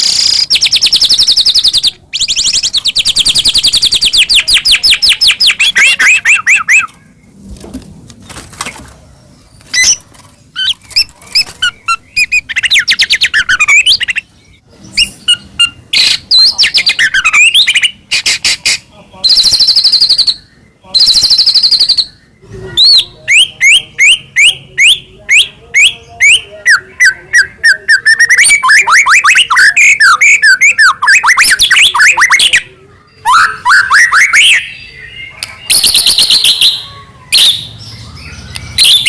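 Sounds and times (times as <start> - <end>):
songbird singing loudly: 0.0 - 7.0, 9.7 - 39.0.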